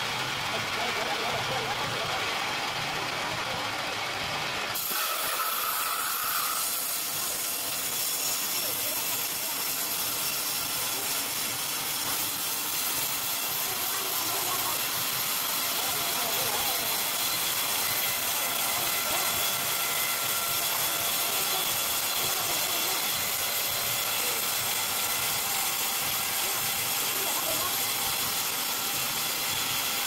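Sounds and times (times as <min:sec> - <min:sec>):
band saw cutting timber: 0:00.0 - 0:30.0.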